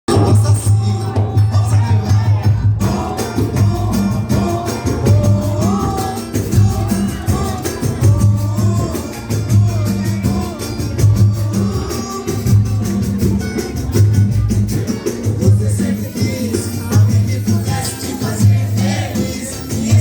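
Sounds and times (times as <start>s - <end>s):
person singing: 0.1s - 13.6s, 14.8s - 20.0s
busy percussion: 0.1s - 20.0s
pulsing bass line: 0.1s - 20.0s.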